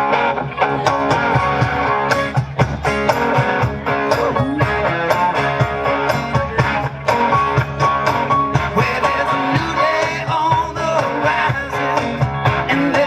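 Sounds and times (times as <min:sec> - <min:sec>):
bass guitar: 0:00.0 - 0:13.0
electric guitar chords: 0:00.0 - 0:13.0
steady drum beat: 0:00.7 - 0:13.0.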